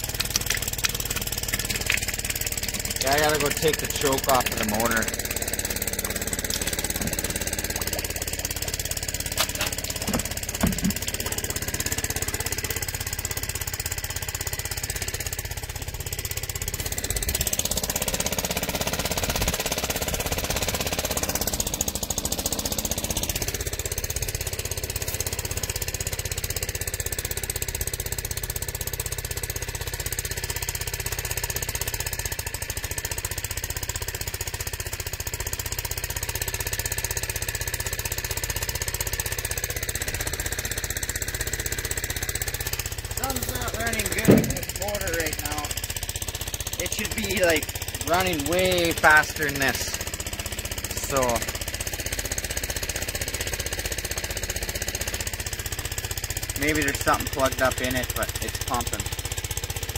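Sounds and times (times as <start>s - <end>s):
small gasoline engine running: 0.0s - 59.9s.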